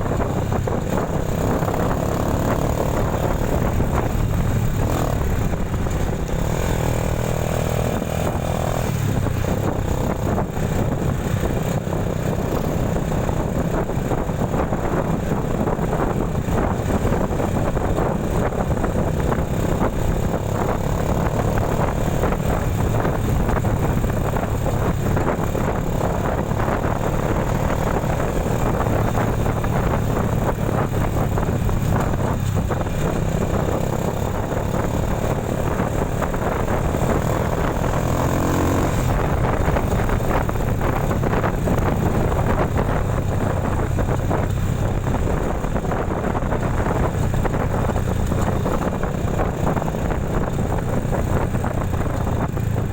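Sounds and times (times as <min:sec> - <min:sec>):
road noise: 0:00.0 - 0:52.9
vehicle engine running: 0:00.0 - 0:52.9
wind buffeting microphone: 0:00.0 - 0:52.9.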